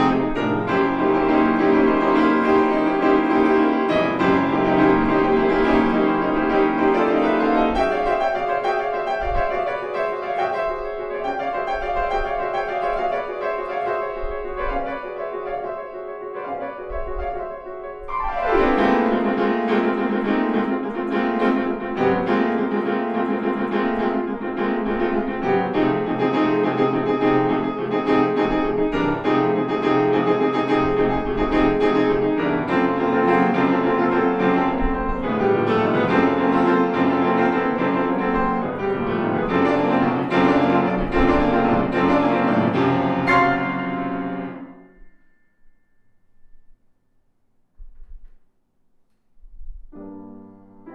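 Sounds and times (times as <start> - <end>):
solo grand piano playing: 0.0 - 47.0, 49.7 - 50.9.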